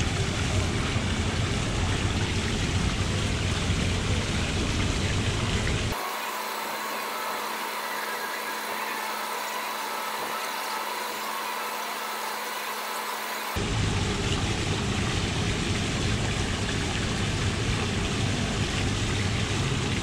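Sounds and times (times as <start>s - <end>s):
machine-like hum with held tones: 0.0s - 20.0s.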